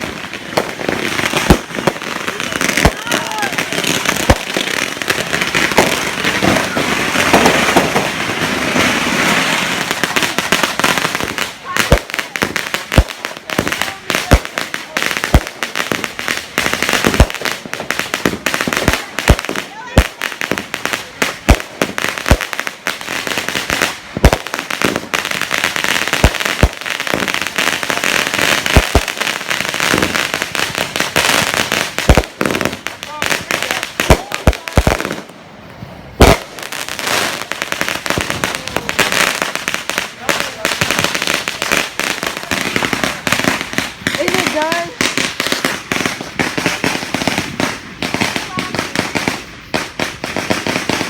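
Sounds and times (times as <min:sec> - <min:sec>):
firecrackers popping: 0:00.0 - 0:51.0.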